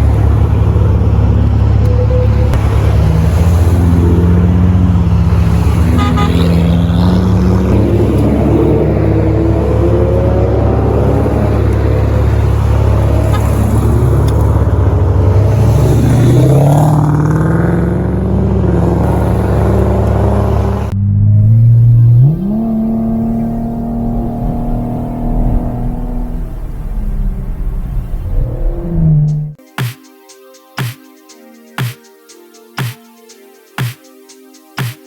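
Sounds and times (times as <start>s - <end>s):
car engine revving: 0.0s - 29.6s.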